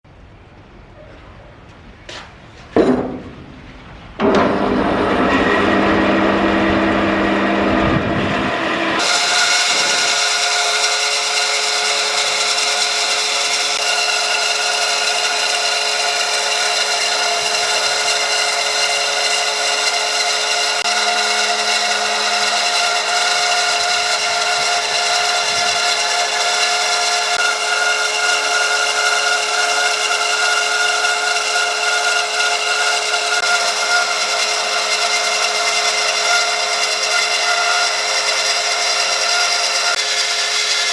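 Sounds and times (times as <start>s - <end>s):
power tool working wood: 4.2s - 40.9s.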